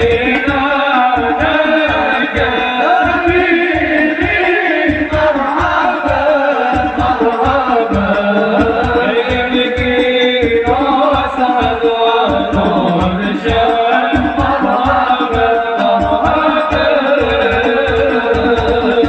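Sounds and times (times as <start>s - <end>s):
group singing devotional songs: 0.0s - 19.0s
hand drums beating: 0.0s - 19.0s.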